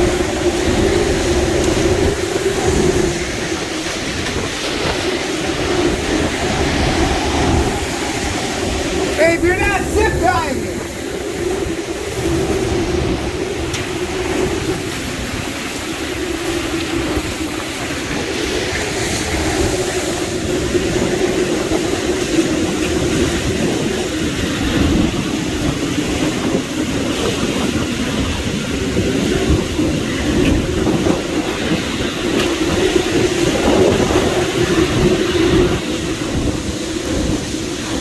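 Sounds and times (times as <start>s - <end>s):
hurricane wind roaring and howling: 0.0s - 38.0s.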